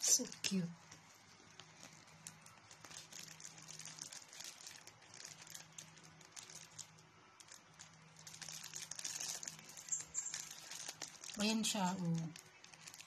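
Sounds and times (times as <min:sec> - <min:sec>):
cellophane crinkling: 0:00.1 - 0:13.0.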